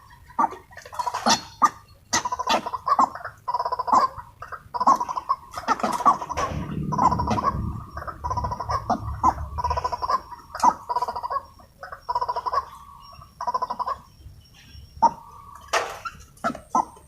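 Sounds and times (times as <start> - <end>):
bird croaking calls: 0.0 - 17.0.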